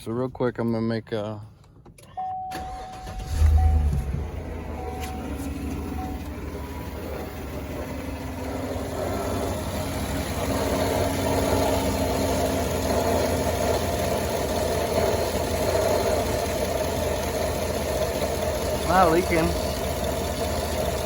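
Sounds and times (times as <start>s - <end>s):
engine idling: 2.6s - 21.0s.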